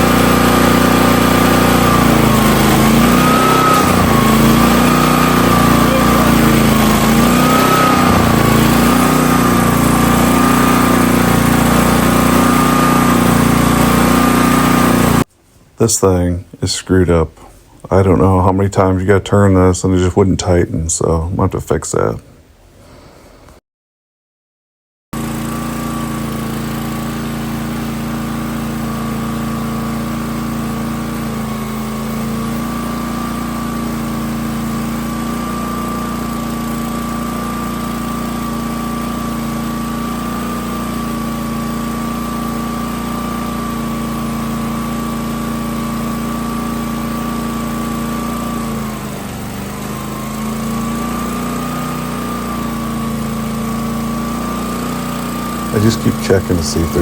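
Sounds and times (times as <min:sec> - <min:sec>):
pressure washer engine running: 0:00.0 - 0:15.3, 0:25.2 - 0:57.0.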